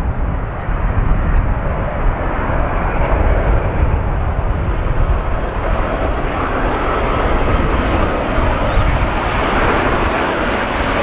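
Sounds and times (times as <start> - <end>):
jet engines running: 0.0 - 11.0
wind buffeting microphone: 0.0 - 11.0.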